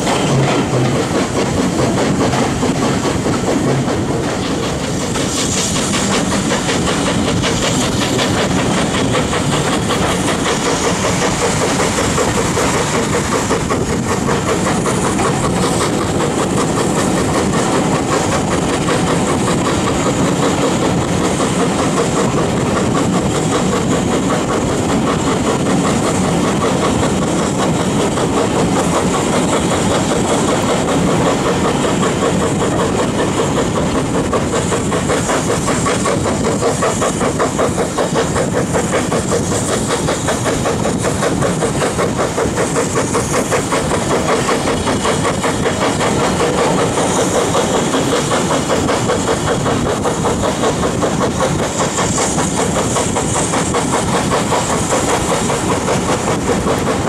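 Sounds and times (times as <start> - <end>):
steam hiss: 0.0 - 57.0
steam locomotive exhaust beats: 0.0 - 57.0
train wheels on rails: 0.0 - 57.0.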